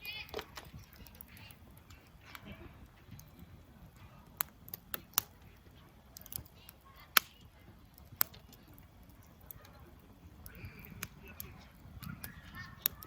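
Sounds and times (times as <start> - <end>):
campfire crackling: 0.0 - 13.0
fire pops and snaps: 0.0 - 13.0.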